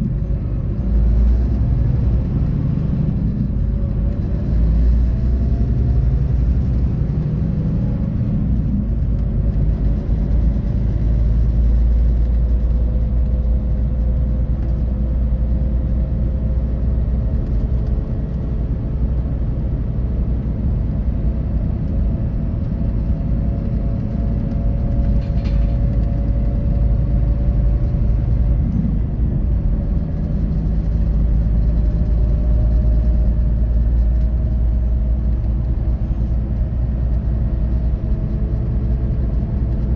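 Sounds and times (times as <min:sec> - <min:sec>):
engine and road noise rumble: 0:00.0 - 0:39.9.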